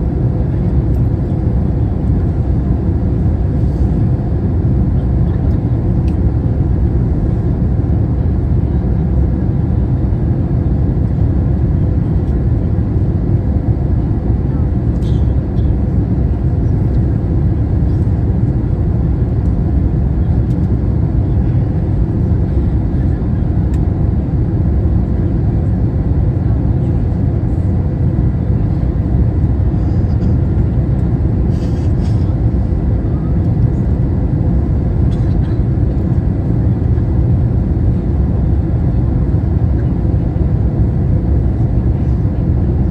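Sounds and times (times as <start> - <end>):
airliner engine and airflow rumble: 0.0 - 42.9.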